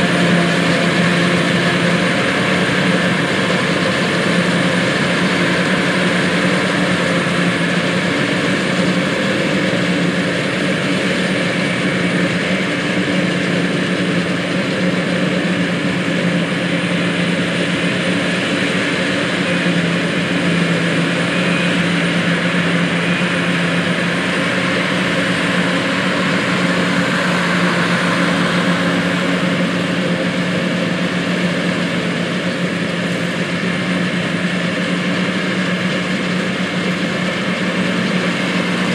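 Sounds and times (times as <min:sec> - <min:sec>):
chopping machinery: 0:00.0 - 0:38.9
heavy diesel engines droning: 0:00.0 - 0:38.9.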